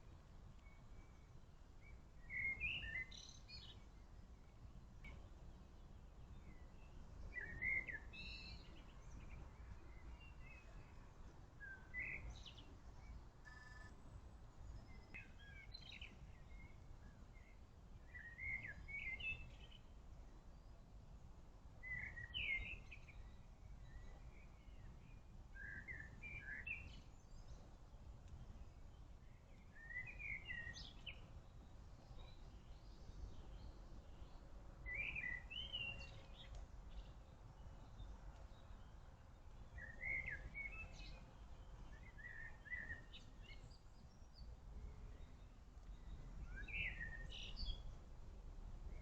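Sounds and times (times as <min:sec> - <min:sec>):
songbird chirping: 0:00.0 - 0:48.2.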